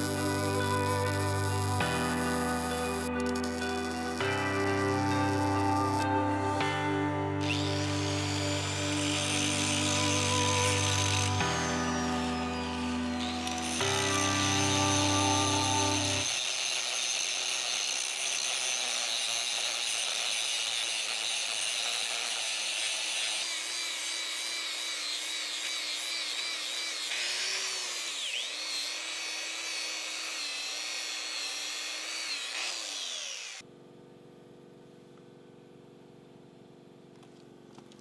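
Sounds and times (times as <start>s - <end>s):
angle grinder grinding steel: 0.0s - 33.6s.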